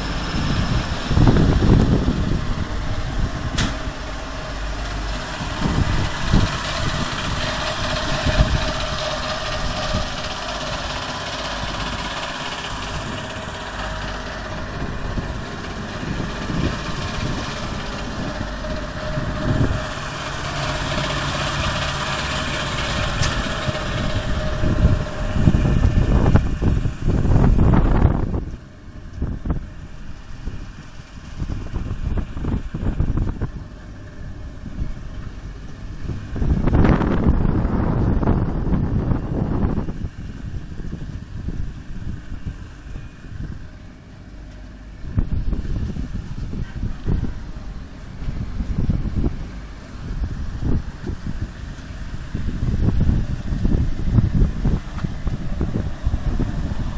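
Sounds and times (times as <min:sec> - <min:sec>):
churning aerated water: 0:00.0 - 0:56.9
pumps humming: 0:00.0 - 0:56.9
wind rumble on microphone: 0:00.0 - 0:56.9.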